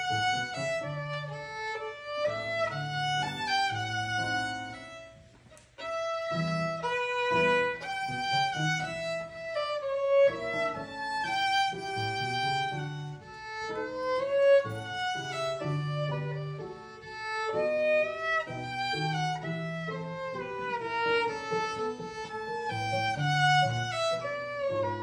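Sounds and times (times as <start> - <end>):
bowed violin melody: 0.0 - 25.0.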